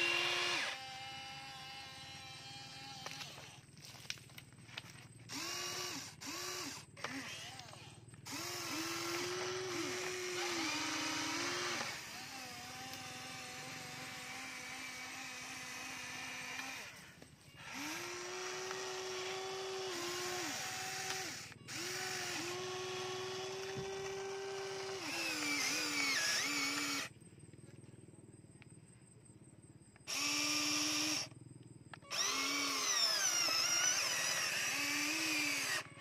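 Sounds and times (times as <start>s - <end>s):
electric motors whining: 0.0s - 4.1s, 4.7s - 27.1s, 30.0s - 36.0s.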